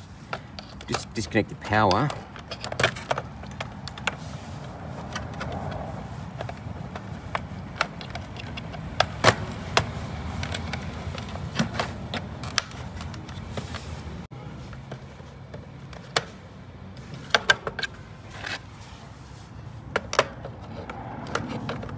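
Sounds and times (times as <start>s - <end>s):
hands and tools clicking and knocking: 0.2s - 14.0s, 14.8s - 18.6s, 19.9s - 21.9s.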